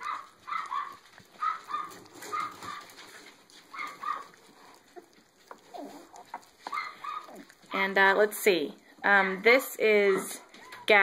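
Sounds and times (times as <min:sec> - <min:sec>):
puppies squeaking: 0:00.0 - 0:07.8, 0:09.9 - 0:11.0
puppies chewing and tearing meat: 0:00.0 - 0:11.0.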